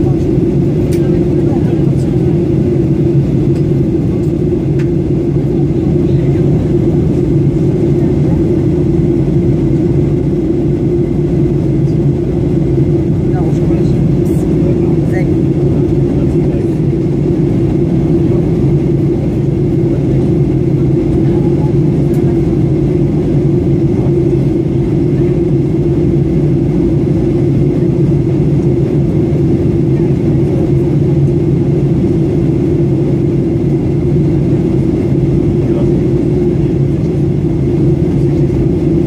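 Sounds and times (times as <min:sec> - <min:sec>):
jet cabin engine drone: 0:00.0 - 0:39.0.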